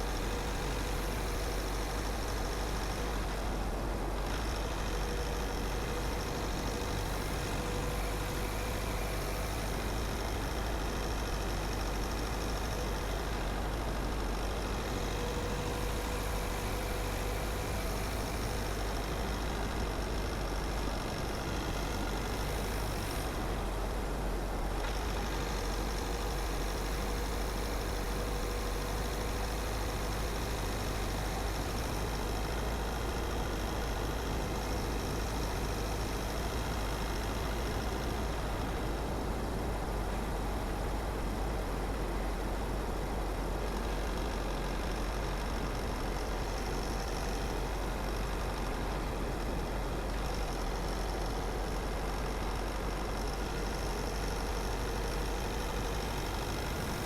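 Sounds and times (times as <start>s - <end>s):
tyre road noise: 0.0s - 57.0s.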